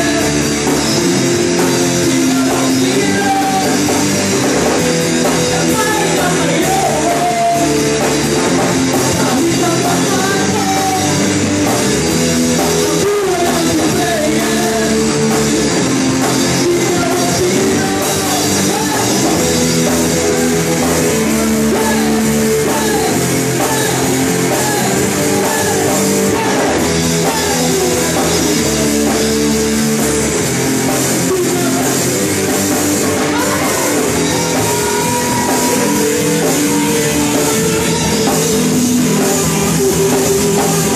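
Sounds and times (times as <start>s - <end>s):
person singing: 0.0s - 40.9s
rock band playing: 0.0s - 40.9s.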